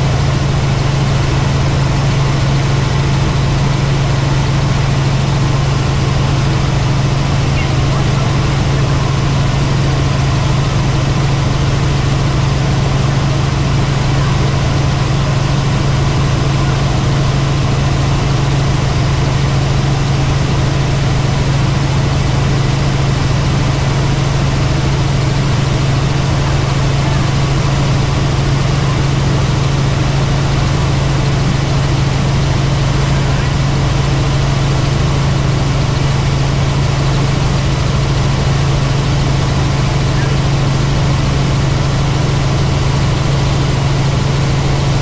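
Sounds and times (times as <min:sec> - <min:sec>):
helicopter engine and rotors drone: 0:00.0 - 0:45.0.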